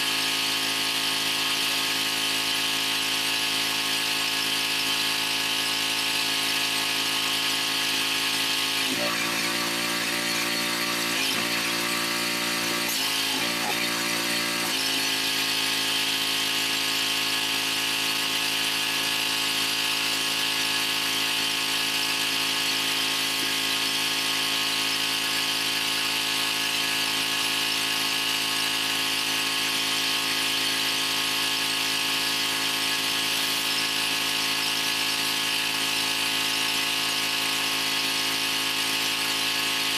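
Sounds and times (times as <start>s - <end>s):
pressure washer drone: 0.0s - 39.9s.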